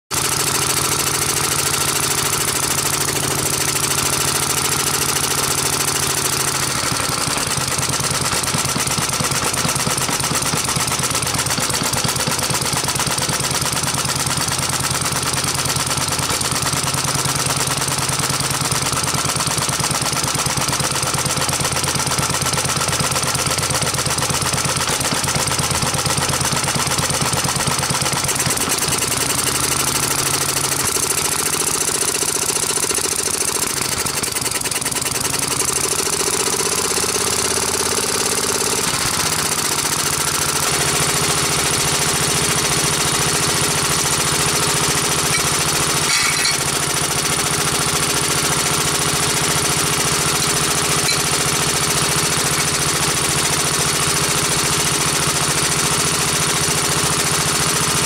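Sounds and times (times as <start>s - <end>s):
stationary engine running: 0.1s - 58.0s.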